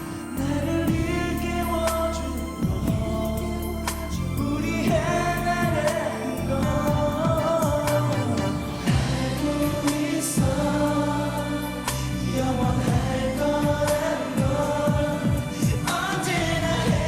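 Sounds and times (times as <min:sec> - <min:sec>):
backing track with steady beat: 0:00.0 - 0:17.0
male voices singing together: 0:00.0 - 0:17.0.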